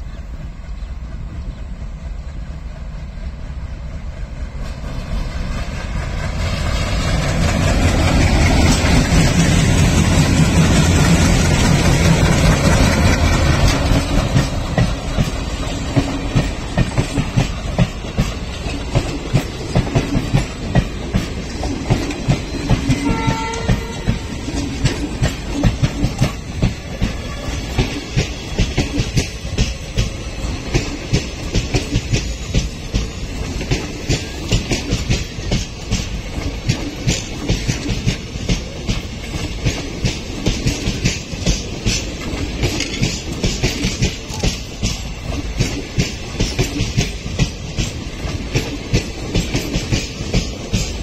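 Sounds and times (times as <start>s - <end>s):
diesel locomotive engines: 0.0s - 51.0s
train wheels clickety-clack: 0.0s - 51.0s.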